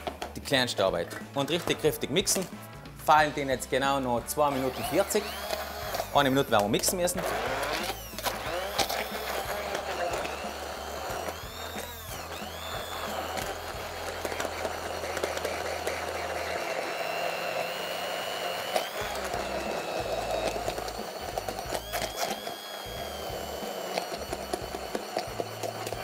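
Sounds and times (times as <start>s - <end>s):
immersion blender whining: 4.3s - 26.0s.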